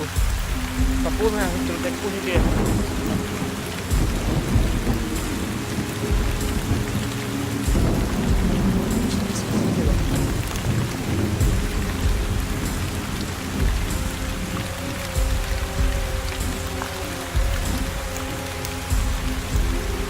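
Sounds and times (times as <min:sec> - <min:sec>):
deep rumbling: 0:00.0 - 0:20.0
rain-like hiss: 0:00.0 - 0:20.0.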